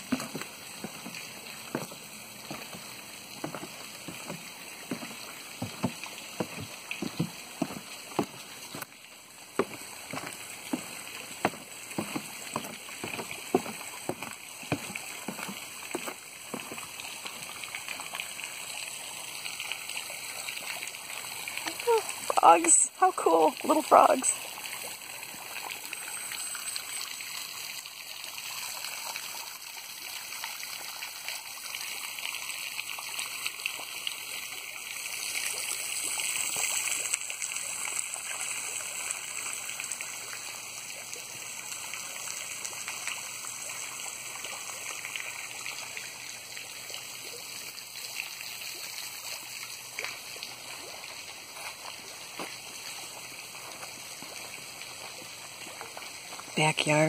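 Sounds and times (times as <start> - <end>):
waterfall trickling into pond: 0.0 - 57.0.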